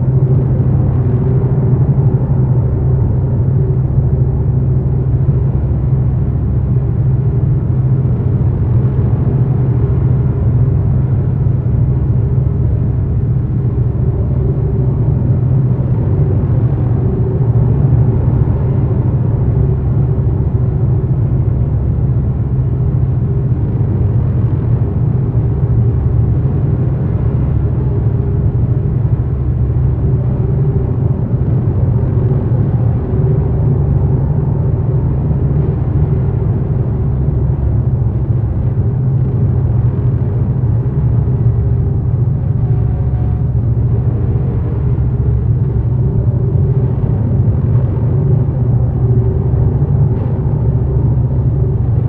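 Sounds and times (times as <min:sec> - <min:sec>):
dark ambient low drone: 0:00.0 - 0:52.0.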